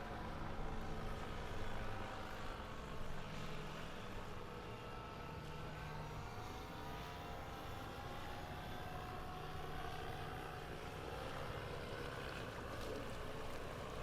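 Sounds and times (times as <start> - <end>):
distant motorboat engines droning: 0.0 - 14.0
wind: 0.0 - 14.0.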